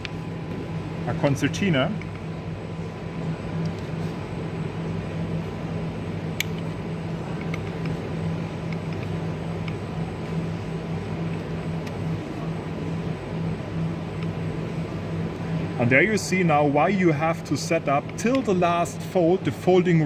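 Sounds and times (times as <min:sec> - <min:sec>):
folding machine humming: 0:00.0 - 0:20.0.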